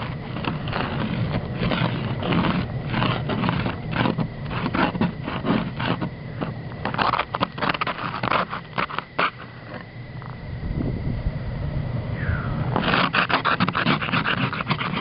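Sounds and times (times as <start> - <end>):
scraping and crunching: 0.0 - 10.4, 12.7 - 15.0.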